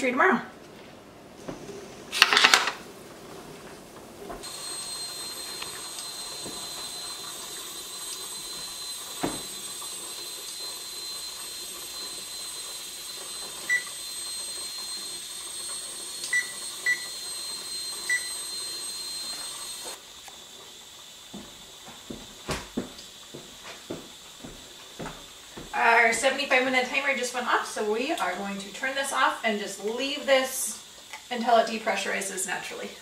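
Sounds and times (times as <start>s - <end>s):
steady hiss from stove: 2.8s - 33.0s.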